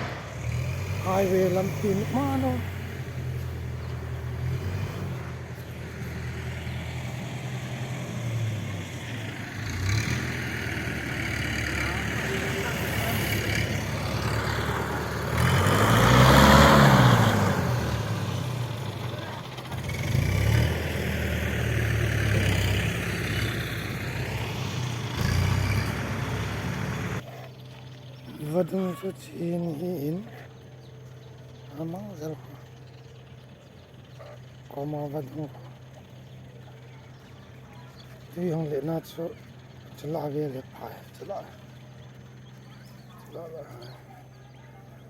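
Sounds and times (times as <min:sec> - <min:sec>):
engine and road rumble: 0:00.0 - 0:45.0.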